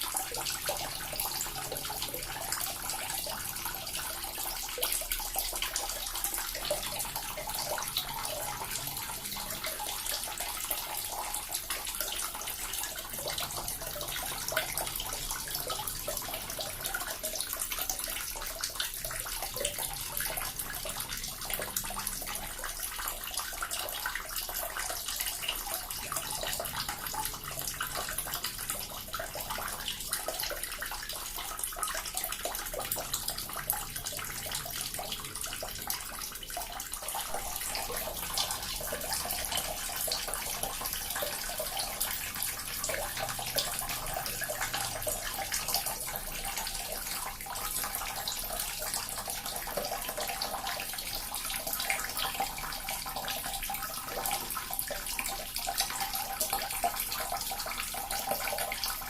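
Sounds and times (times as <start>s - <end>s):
water fountain splashing: 0.0s - 59.0s.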